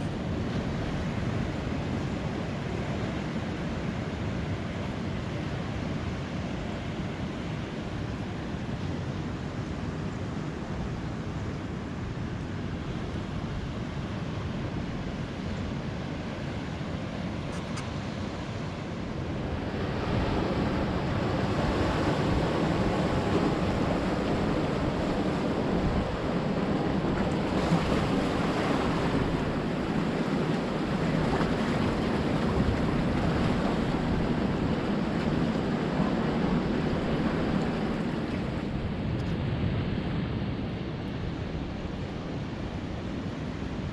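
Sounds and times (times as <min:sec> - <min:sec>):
ocean waves washing onto beach: 0:00.0 - 0:43.9
wind on microphone: 0:00.0 - 0:43.9.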